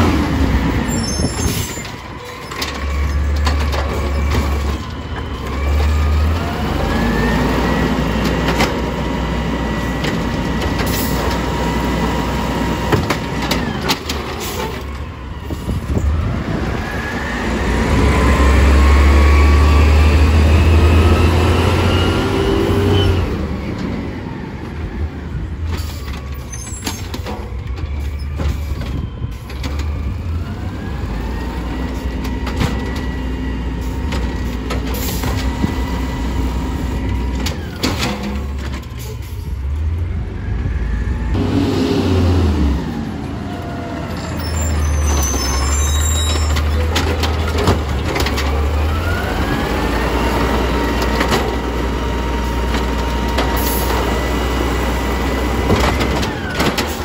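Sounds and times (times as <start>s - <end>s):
garbage truck engine with whine: 0.0s - 57.0s.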